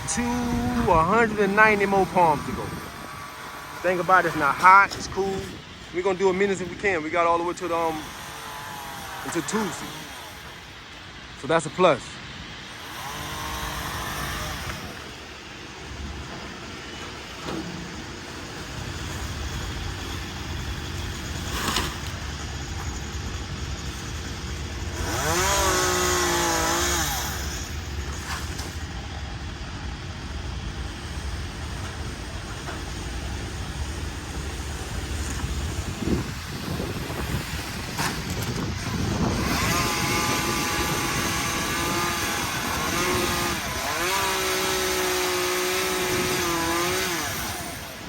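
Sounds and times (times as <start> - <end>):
engine rumbling: 0.0 - 48.0.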